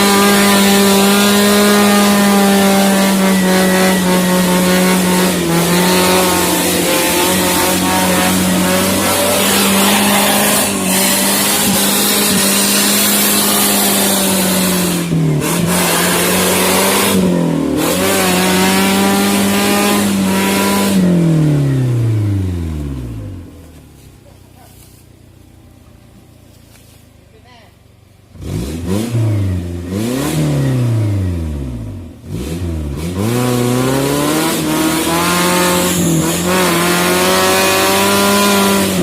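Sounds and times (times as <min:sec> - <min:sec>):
car engine revving high: 0:00.0 - 0:23.6, 0:28.3 - 0:39.0.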